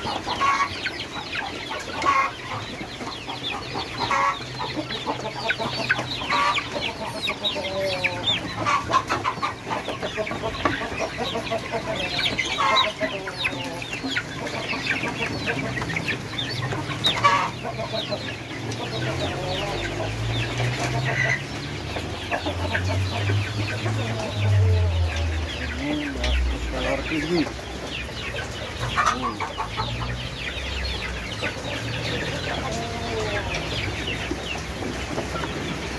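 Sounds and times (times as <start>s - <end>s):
chickens clucking and calling: 0.0s - 35.9s.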